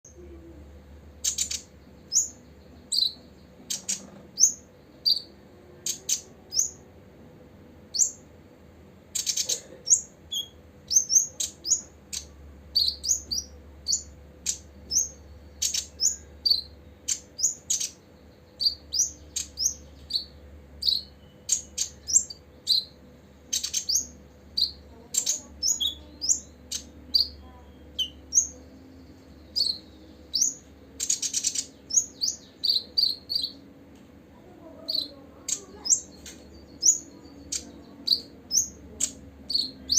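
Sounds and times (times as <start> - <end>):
bird chipping and twittering: 1.1 - 6.8, 7.9 - 8.3, 9.1 - 33.7, 34.5 - 39.9.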